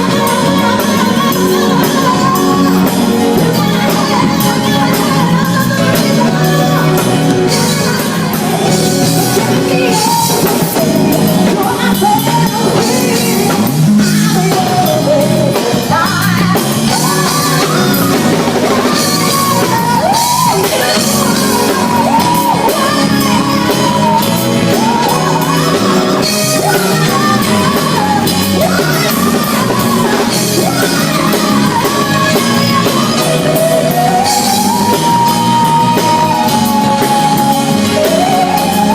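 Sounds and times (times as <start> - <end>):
live band playing slow song: 0.0 - 38.9.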